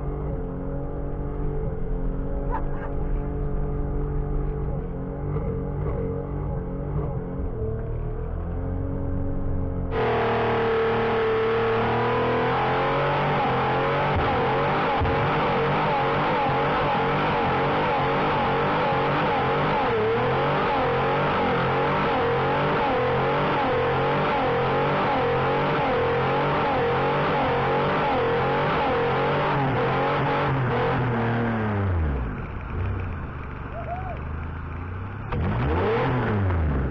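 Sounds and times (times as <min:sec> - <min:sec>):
car engine at high revs: 0:00.0 - 0:36.9.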